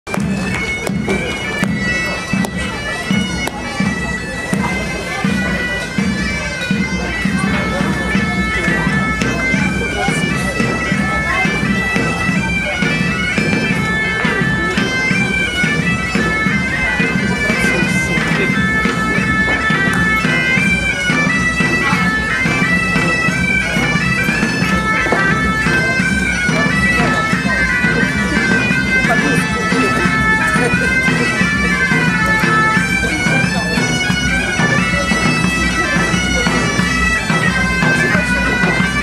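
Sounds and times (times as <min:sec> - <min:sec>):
bagpipe music: 0:00.1 - 0:39.0.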